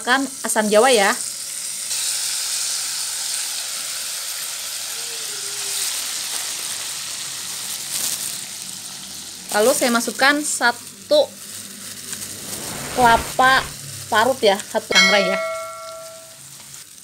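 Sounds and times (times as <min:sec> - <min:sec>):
spice paste sizzling in a wok: 0:00.0 - 0:17.0.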